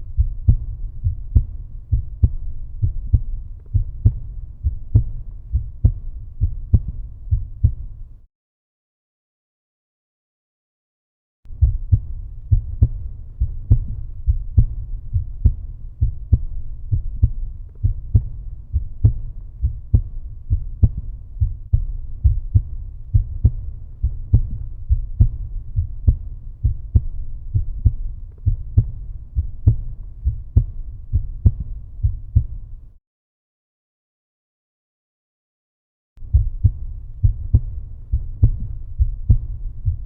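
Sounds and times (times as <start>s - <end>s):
heartbeat thumps: 0.0s - 8.2s, 11.5s - 32.9s, 36.2s - 40.0s.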